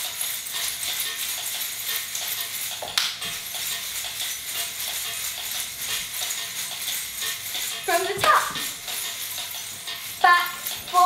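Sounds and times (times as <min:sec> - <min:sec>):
coins on hip scarf jingling: 0:00.0 - 0:11.0.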